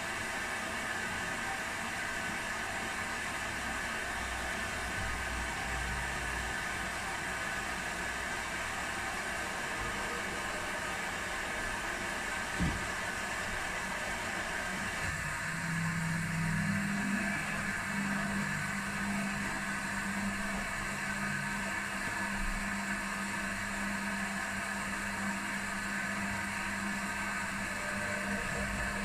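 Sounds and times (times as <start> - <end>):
washing machine hum: 0.0 - 29.0.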